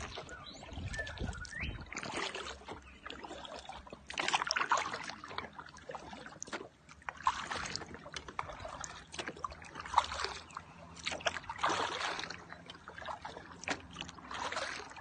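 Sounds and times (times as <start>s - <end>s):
kayak paddle splashing water: 0.0s - 15.0s.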